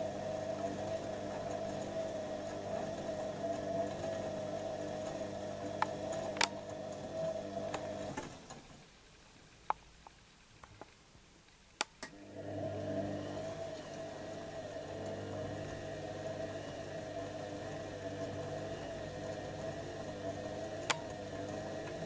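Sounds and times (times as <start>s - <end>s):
washing machine motor humming: 0.0s - 8.9s, 12.0s - 22.0s.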